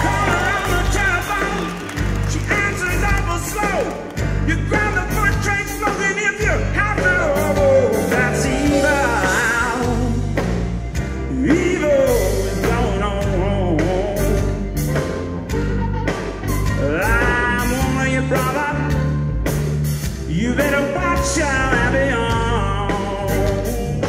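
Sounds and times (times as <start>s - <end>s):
man singing: 0.0s - 10.6s, 11.2s - 15.0s, 16.6s - 19.2s, 20.2s - 24.0s
electric blues band playing: 0.0s - 24.0s.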